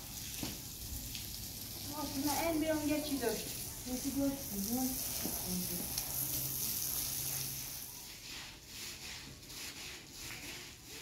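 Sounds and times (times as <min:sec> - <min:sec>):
hose water hissing: 0:00.0 - 0:11.0
brush scrubbing wet carpet: 0:01.9 - 0:11.0.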